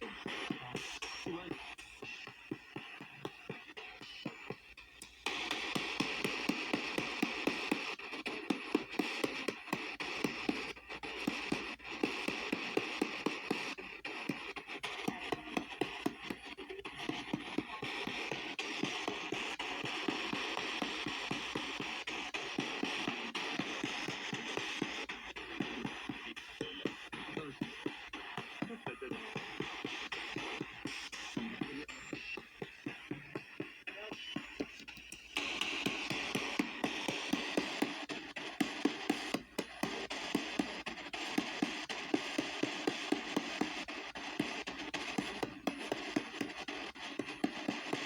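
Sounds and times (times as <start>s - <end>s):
choppy radio static: 0.0s - 48.0s
radio station change clicks: 0.0s - 48.0s.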